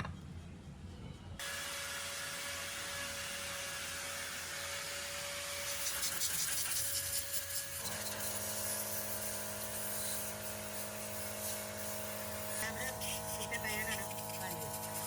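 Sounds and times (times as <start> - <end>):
steady mechanical hum: 0.0 - 15.0
hiss: 1.4 - 15.0.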